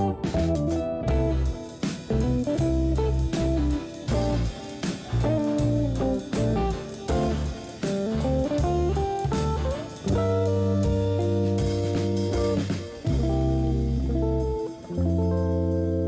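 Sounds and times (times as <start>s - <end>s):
electric guitar music with beat: 0.0s - 16.0s.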